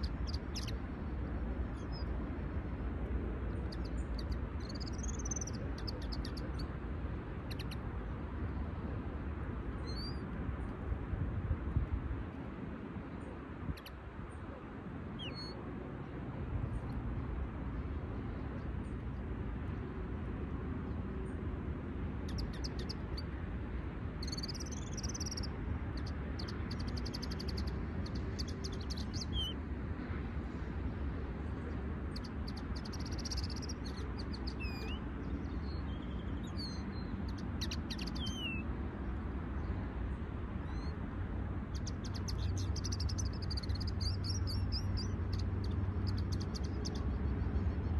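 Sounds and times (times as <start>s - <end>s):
songbirds chirping and twittering: 0.0s - 47.9s.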